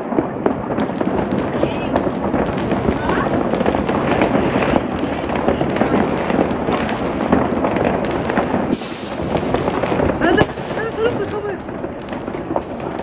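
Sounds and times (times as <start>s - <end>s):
fireworks bangs and crackles: 0.0s - 13.0s
firework hiss: 1.0s - 13.0s.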